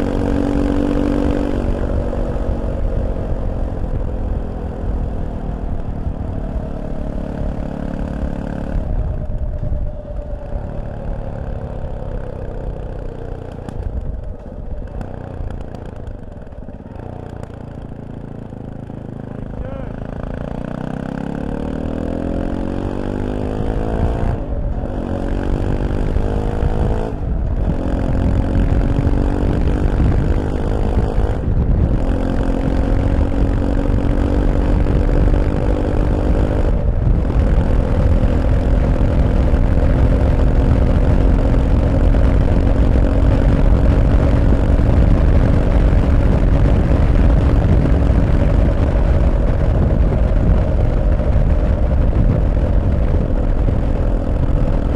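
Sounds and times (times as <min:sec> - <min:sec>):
motorcycle engine accelerating: 0:00.0 - 0:54.9
wind noise: 0:00.0 - 0:54.9.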